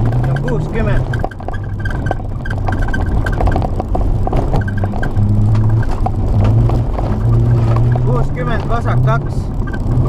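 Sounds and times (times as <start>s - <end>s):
car engine pulling hard: 0.0s - 10.0s.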